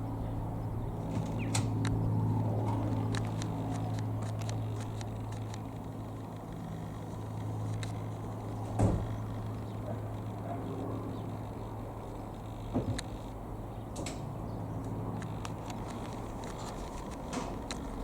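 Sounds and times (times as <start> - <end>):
light aircraft engine droning: 0.0 - 18.0.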